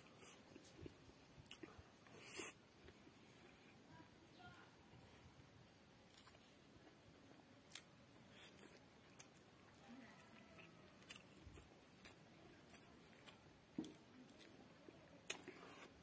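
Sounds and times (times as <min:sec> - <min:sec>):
quiet chewing and lip smacks: 0:00.0 - 0:03.8, 0:06.0 - 0:16.0.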